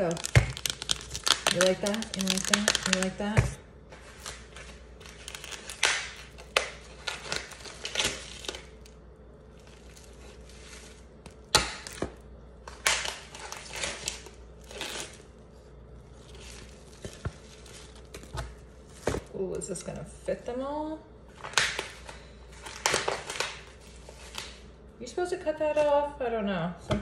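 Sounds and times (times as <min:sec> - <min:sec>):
plastic packaging crinkling: 0:00.0 - 0:20.0, 0:21.2 - 0:24.8.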